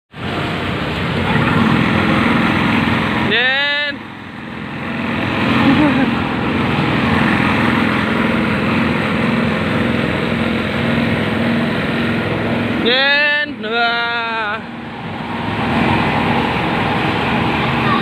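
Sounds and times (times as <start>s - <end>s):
kiddie ride hum: 0.1s - 18.0s.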